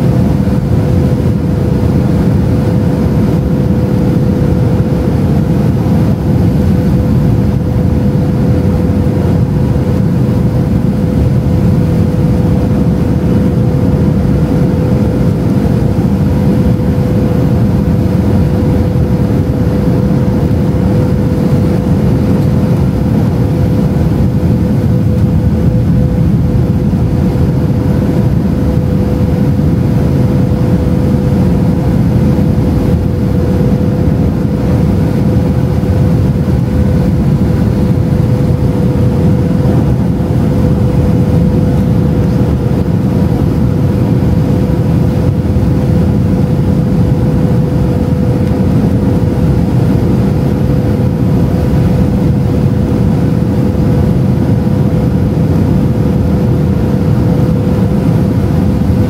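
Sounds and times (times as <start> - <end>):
airplane cabin engine noise: 0.0 - 59.0
steady hum: 0.0 - 59.0.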